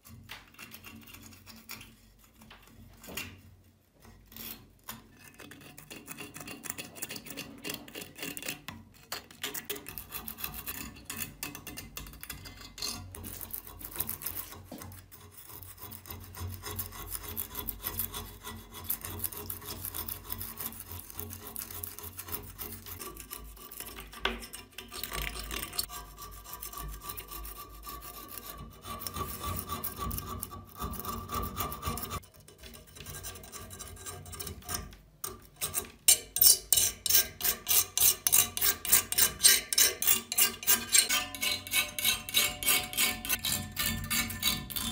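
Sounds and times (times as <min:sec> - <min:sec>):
chisel scraping rust off metal: 0:04.0 - 0:44.9.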